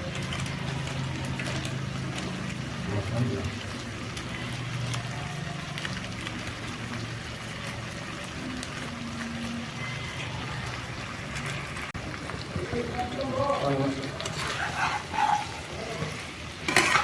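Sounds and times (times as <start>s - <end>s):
curry sizzling and bubbling in a pan: 0.0s - 17.0s.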